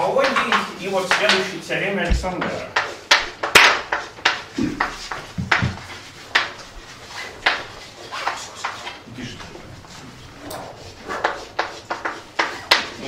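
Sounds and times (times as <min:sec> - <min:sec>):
chalk tapping and scratching: 0:00.2 - 0:09.1, 0:09.7 - 0:13.0.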